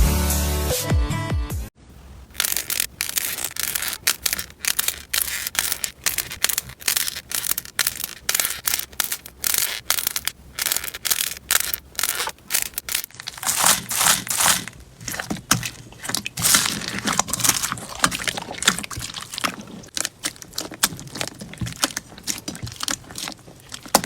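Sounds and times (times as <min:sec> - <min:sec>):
slime crackling when squeezed: 0:02.2 - 0:24.0.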